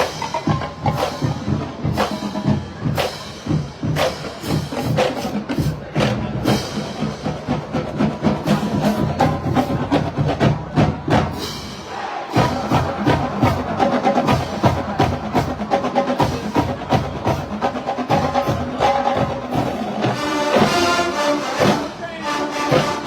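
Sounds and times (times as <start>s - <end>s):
marching band playing: 0.0s - 23.0s.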